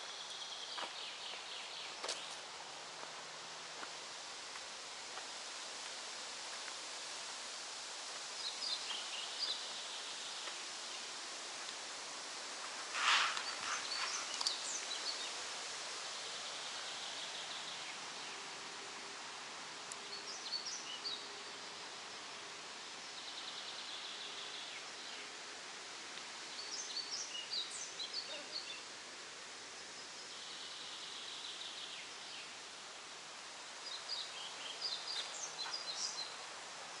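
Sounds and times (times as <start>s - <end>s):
songbirds singing: 0.0s - 2.9s, 8.2s - 37.0s
steady background hiss: 0.0s - 37.0s.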